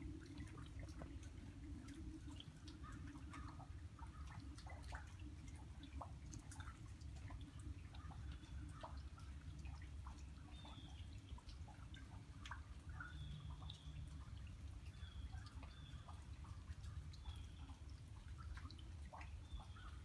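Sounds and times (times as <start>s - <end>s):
low steady rumble: 0.0s - 20.0s
water dripping: 0.0s - 20.0s.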